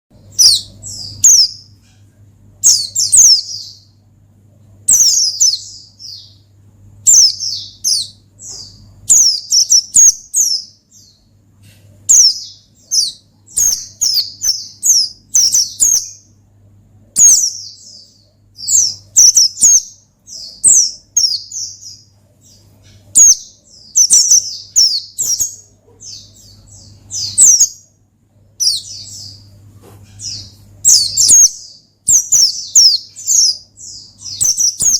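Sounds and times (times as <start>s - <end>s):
bird high chirps and twitters: 0.1s - 4.1s, 4.8s - 16.4s, 17.1s - 28.0s, 28.6s - 34.9s
faint low hum: 0.1s - 34.9s.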